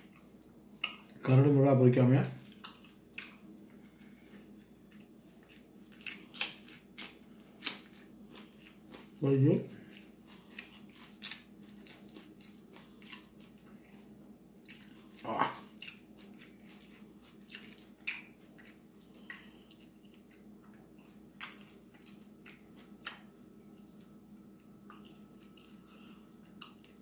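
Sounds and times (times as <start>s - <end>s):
wet eating clicks and smacks: 0.0s - 1.3s, 2.4s - 4.1s, 4.9s - 9.2s, 9.8s - 27.0s
faint steady hum: 0.0s - 27.0s.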